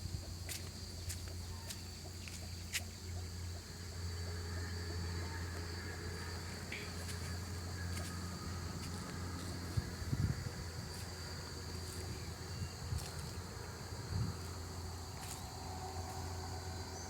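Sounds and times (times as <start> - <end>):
insects trilling: 0.0 - 17.0
steady low hum: 0.0 - 17.0.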